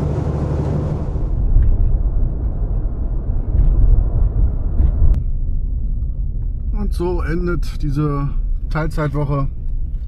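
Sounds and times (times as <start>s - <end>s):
truck diesel engine rumble: 0.0s - 8.9s
road noise: 0.0s - 10.0s.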